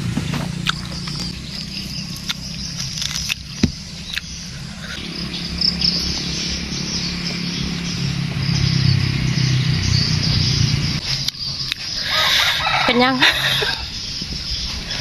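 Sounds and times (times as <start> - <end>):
insects chirping: 0.6 - 15.0.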